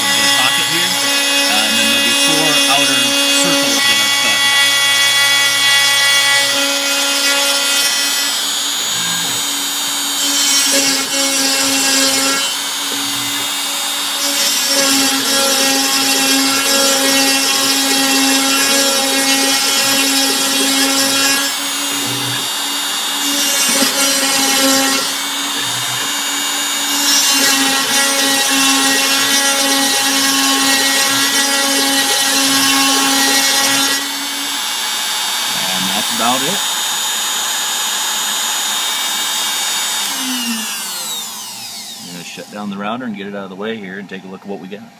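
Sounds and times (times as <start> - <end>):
router motor whine: 0.0 - 43.0
router bit cutting wood: 0.0 - 44.7.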